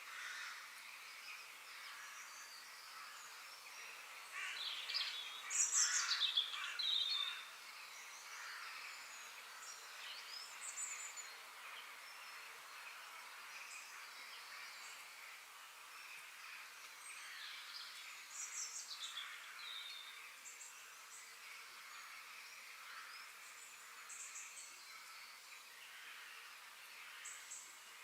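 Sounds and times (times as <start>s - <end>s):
songbirds singing and chirping: 0.0s - 28.0s.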